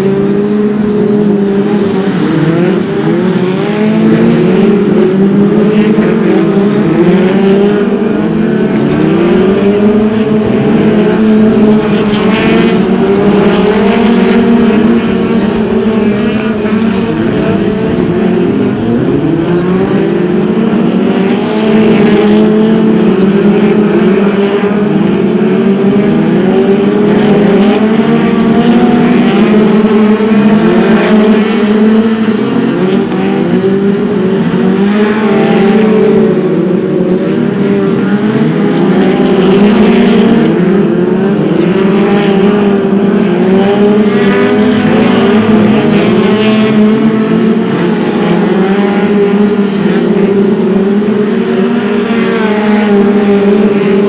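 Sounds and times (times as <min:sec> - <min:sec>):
stock car engines revving: 0:00.0 - 0:54.0.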